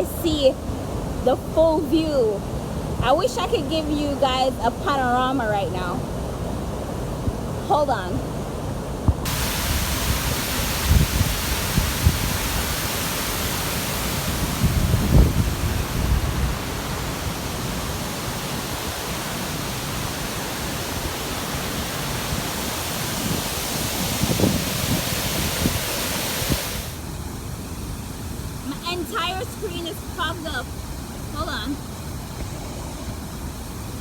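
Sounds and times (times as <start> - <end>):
waterfall roaring: 0.0 - 34.0.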